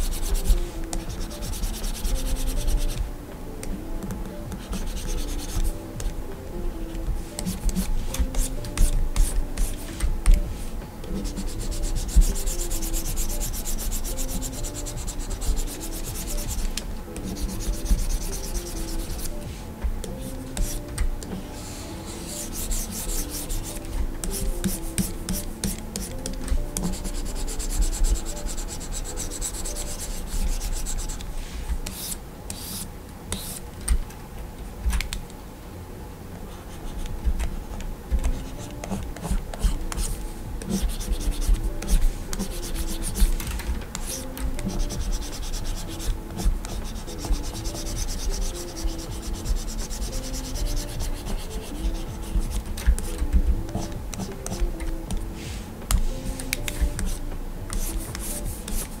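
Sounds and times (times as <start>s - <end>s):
stylus scratching on screen: 0.0s - 3.0s, 4.6s - 6.2s, 7.4s - 33.6s, 38.2s - 59.0s.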